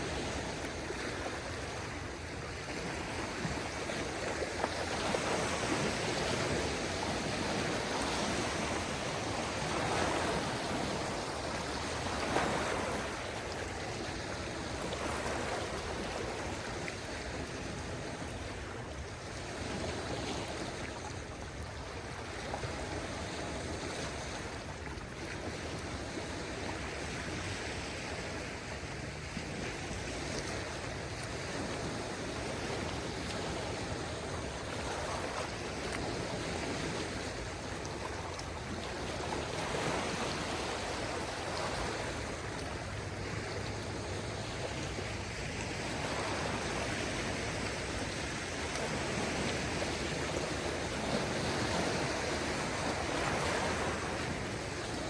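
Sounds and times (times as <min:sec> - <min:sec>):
small waves washing onto beach: 0:00.0 - 0:55.0.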